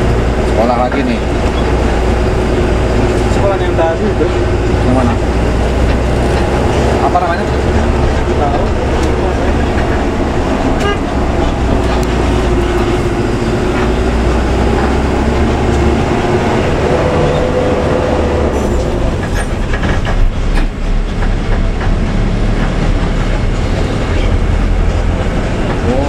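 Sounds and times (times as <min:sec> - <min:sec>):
bus fittings rattling: 0:00.0 - 0:17.5, 0:18.3 - 0:26.0
bus engine drone: 0:00.0 - 0:26.0.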